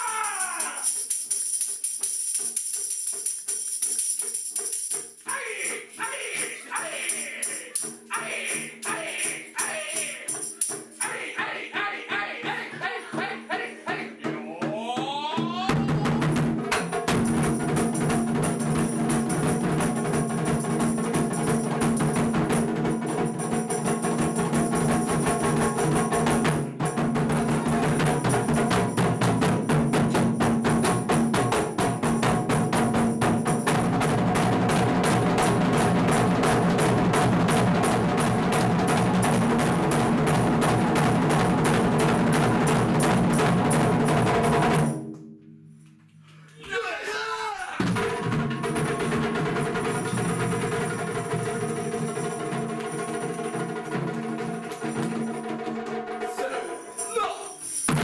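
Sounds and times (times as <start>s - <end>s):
jingling percussion: 0.0s - 11.7s, 12.5s - 13.8s, 15.8s - 45.1s, 47.7s - 58.0s.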